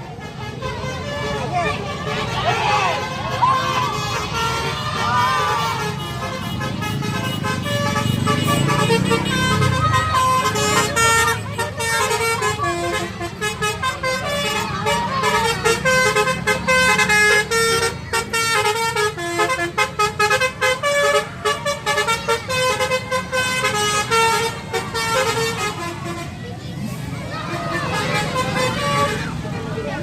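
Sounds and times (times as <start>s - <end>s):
multi-note bus air horn tune: 0.1s - 26.5s, 27.3s - 29.4s.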